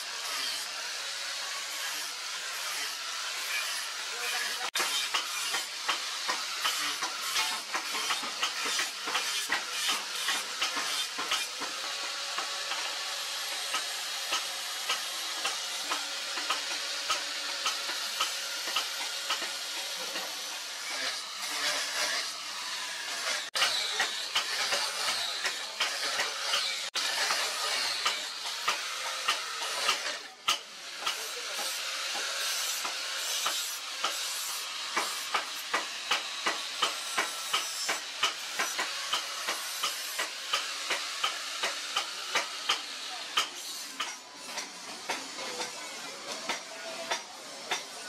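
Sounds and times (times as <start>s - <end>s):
angle grinder grinding steel: 0.0s - 48.0s.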